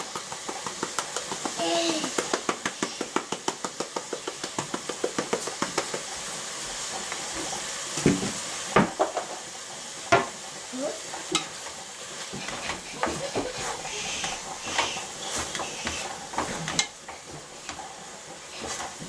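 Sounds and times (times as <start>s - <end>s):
meat sizzling: 0.0s - 19.0s.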